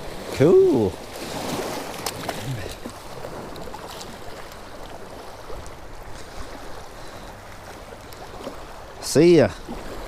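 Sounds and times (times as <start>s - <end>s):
choppy water washing: 0.0s - 10.0s.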